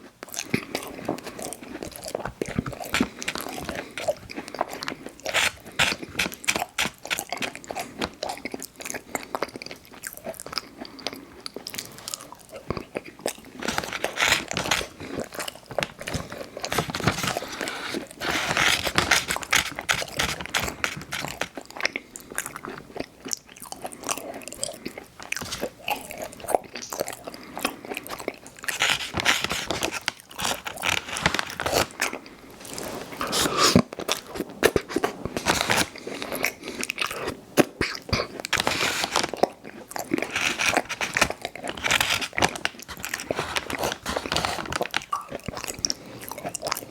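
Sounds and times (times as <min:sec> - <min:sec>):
biting and chewing cookies: 0:00.0 - 0:46.9.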